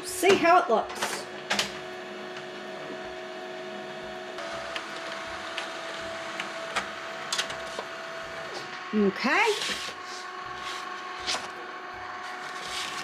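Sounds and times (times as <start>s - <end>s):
laser printer whirring: 0.9s - 13.0s.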